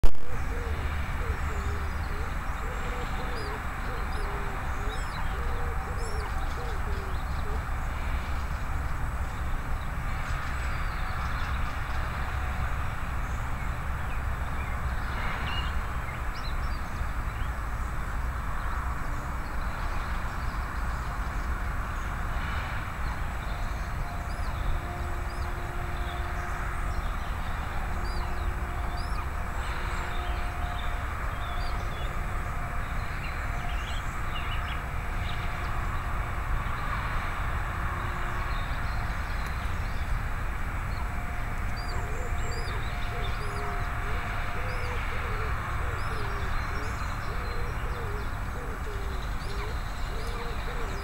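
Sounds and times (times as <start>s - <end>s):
low outdoor rumble: 0.1s - 51.0s.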